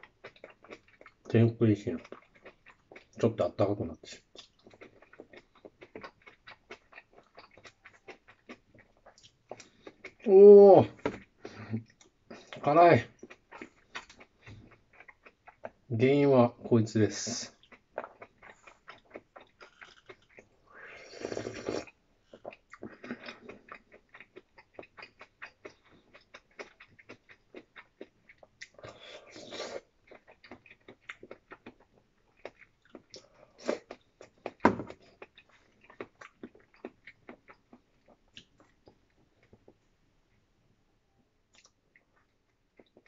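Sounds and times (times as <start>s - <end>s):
person chewing with wet clicks: 0.0s - 3.3s, 4.0s - 10.3s, 11.2s - 15.9s, 17.5s - 20.6s, 21.3s - 40.4s, 41.5s - 43.0s.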